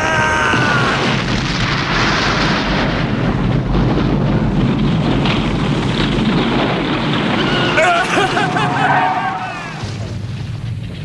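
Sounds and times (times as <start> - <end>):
explosion rumble: 0.0 - 11.0.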